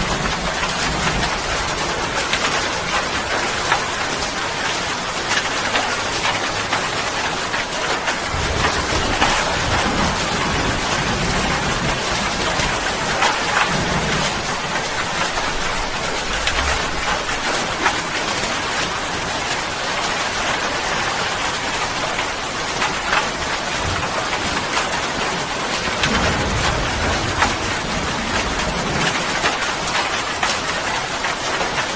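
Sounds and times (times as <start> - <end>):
steady rain hiss: 0.0 - 31.9.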